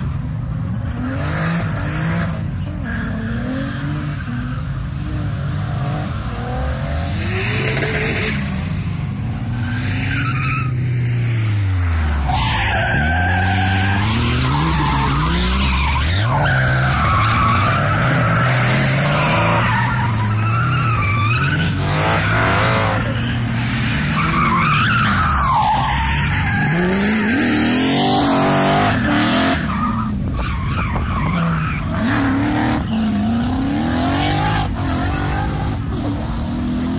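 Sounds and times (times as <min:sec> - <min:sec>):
car engine revving: 0:05.4 - 0:36.9.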